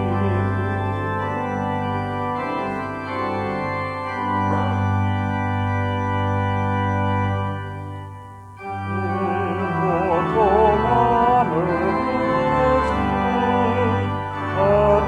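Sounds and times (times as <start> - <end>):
organ playing hymn chords: 0.0 - 15.0.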